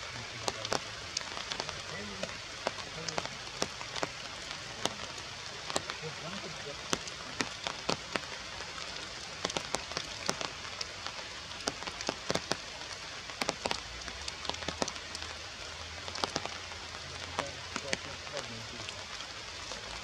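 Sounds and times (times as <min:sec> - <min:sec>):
drops ticking on leaves: 0:00.0 - 0:20.0
rain on foliage: 0:00.0 - 0:20.0.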